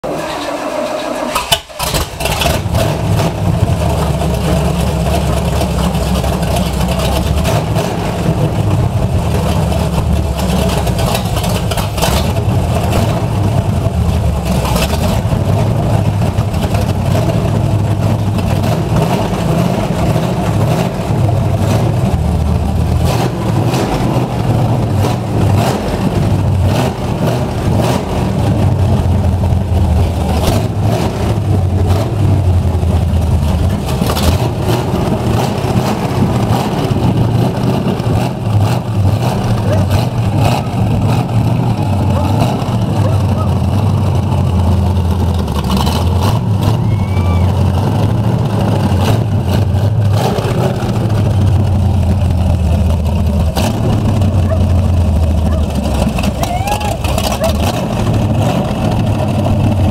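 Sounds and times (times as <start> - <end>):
engine starting and revving: 0.0 - 59.9.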